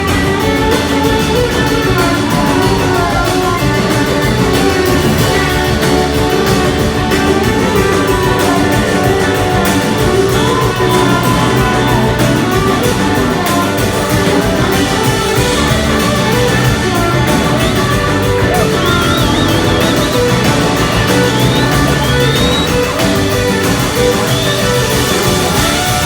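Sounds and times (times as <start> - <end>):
electric slide guitar solo: 0.0 - 26.0
live rock band playing: 0.0 - 26.0.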